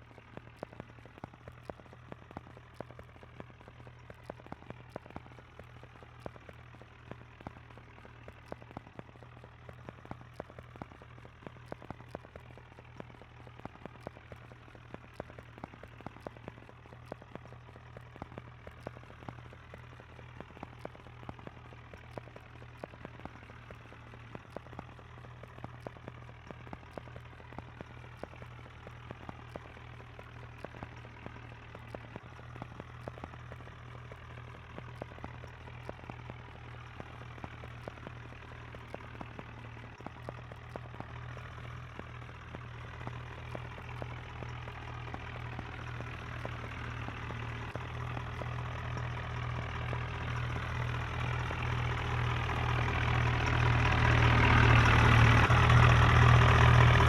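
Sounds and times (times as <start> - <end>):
rapid clicking: 0.0 - 57.0
tractor engine running: 0.0 - 57.0.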